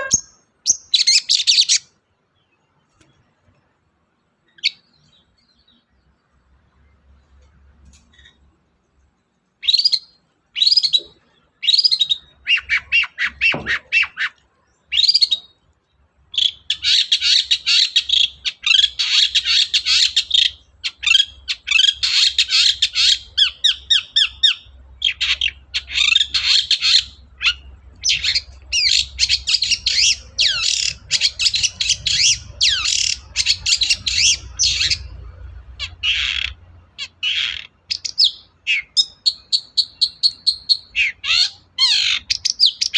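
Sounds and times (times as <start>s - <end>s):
bird singing fast chattering song: 0.0s - 2.8s, 4.2s - 7.0s, 8.0s - 42.9s.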